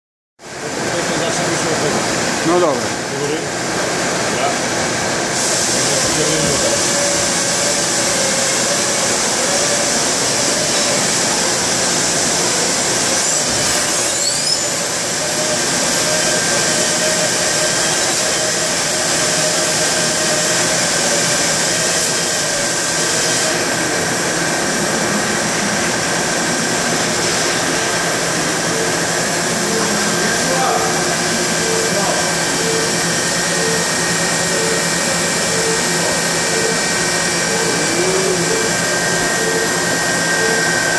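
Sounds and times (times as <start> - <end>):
machine spindle whine and cutting: 0.5 - 40.9.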